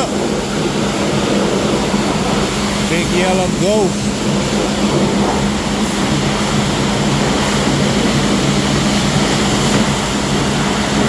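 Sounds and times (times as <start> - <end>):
low drone: 0.0 - 11.0
truck wash humming and hissing: 0.0 - 11.0.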